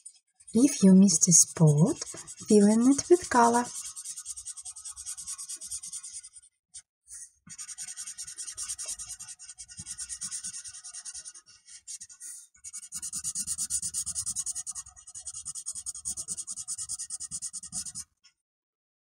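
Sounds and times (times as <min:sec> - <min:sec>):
marker scratching on paper: 0:00.4 - 0:06.5, 0:07.1 - 0:18.1.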